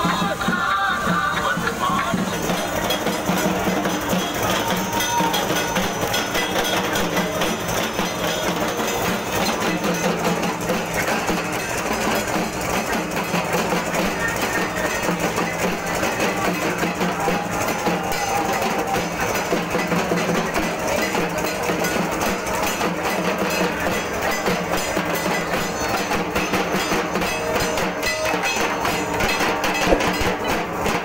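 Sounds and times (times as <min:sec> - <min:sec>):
hand drums beaten fast: 0:00.0 - 0:31.0.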